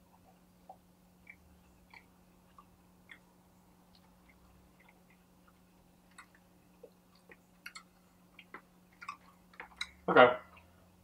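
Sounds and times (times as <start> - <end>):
person chewing: 0.0 - 10.8
steady low hum: 0.0 - 11.0.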